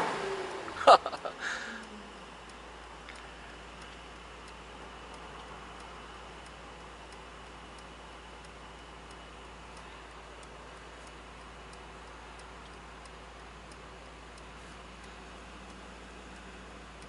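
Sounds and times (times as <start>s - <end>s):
low cabin hum: 0.0s - 17.0s
car indicator ticking: 0.5s - 17.0s.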